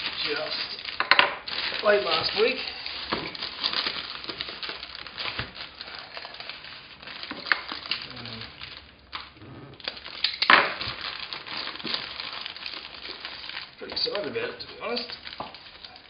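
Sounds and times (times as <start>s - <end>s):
plastic satchel crinkling and tearing: 0.0s - 16.0s.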